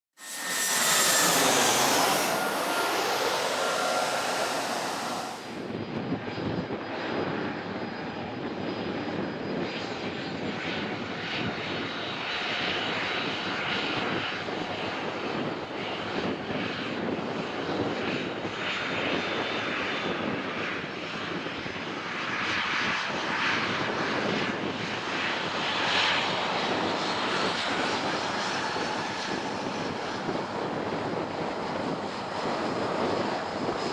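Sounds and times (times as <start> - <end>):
rough jet engine noise: 0.0 - 33.9
jet engine with falling whine: 0.1 - 33.9.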